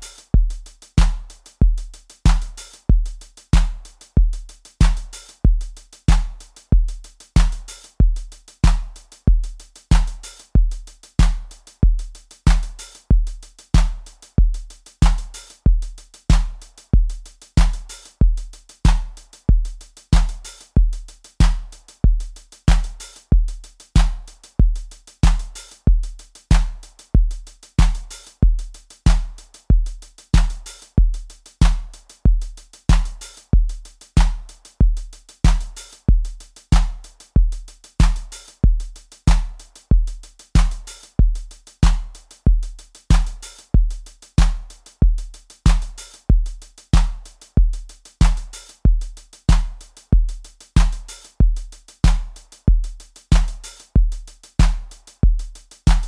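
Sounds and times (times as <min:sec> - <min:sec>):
drum machine beat: 0:00.0 - 0:56.0.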